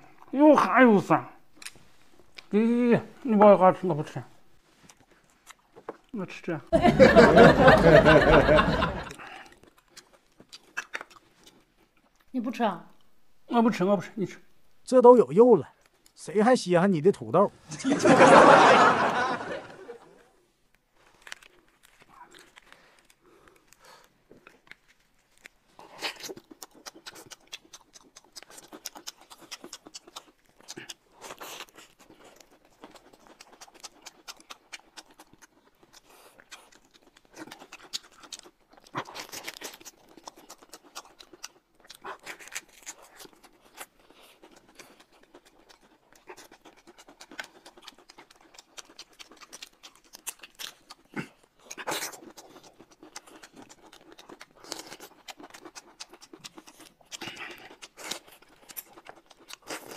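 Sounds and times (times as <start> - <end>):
crunching and chewing: 0.0 - 0.6, 1.4 - 2.6, 4.4 - 6.4, 8.7 - 13.2, 15.7 - 16.2, 19.4 - 59.9
crackles and rustles of food wraps: 1.4 - 6.6, 8.8 - 13.1, 15.6 - 17.8, 19.7 - 59.9.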